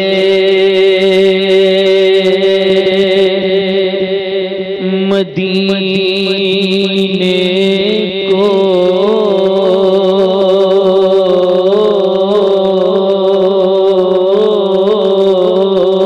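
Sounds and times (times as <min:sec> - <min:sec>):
man singing a long note: 0:00.0 - 0:16.0.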